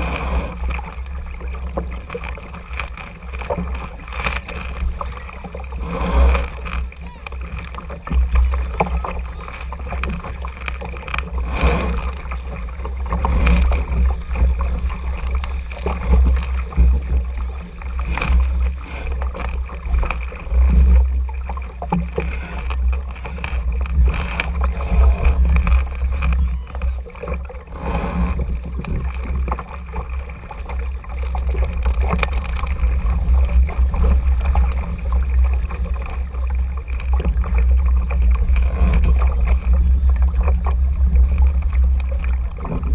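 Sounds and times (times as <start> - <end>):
water gurgling along hull: 0.0 - 42.9.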